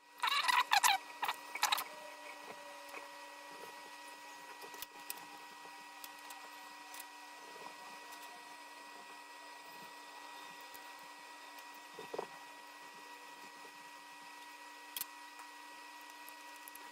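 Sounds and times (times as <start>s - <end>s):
electrical hum: 0.0s - 16.9s.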